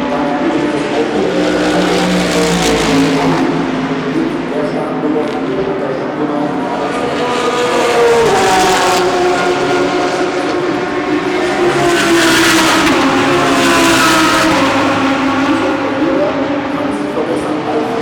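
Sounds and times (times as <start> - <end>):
race car engines at full throttle: 0.0 - 18.0.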